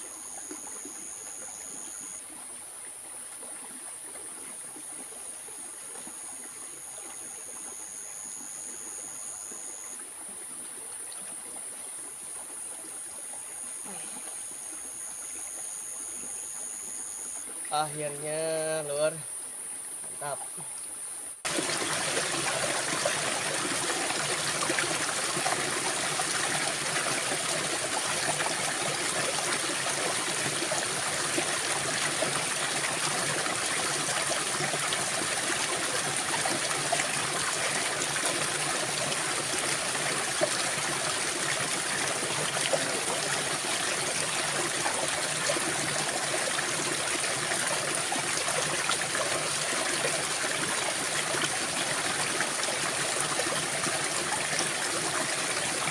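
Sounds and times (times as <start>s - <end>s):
small stream trickling: 0.0s - 55.9s.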